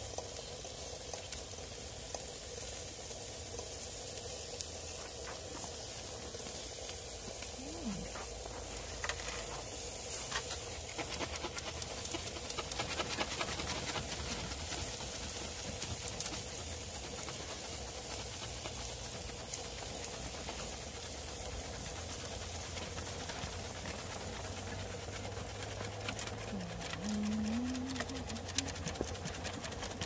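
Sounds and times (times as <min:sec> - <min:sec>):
meat sizzling on a grill: 0:00.0 - 0:29.2.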